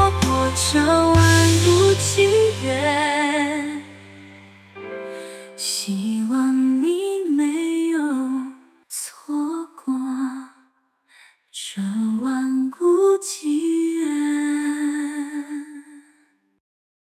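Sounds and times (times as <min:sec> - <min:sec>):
person singing pop ballad: 0:00.0 - 0:10.5, 0:11.6 - 0:16.0.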